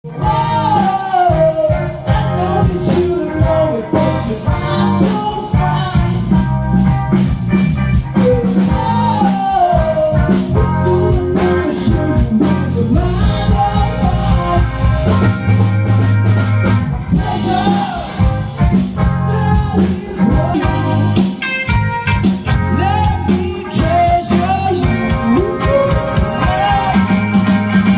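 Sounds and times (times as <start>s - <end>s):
song through loud sound system: 0.1s - 27.9s.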